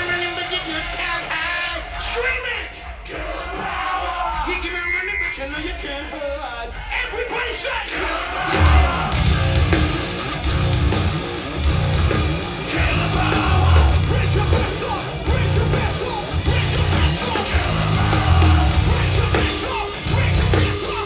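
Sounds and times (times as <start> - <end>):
live heavy rock band: 0.0 - 21.0.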